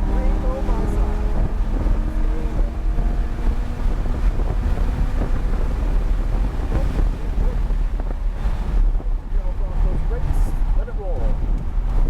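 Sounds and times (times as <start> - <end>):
car engine rumble: 0.0 - 12.0
road noise: 0.0 - 12.0
wind buffeting on microphone: 0.0 - 12.0.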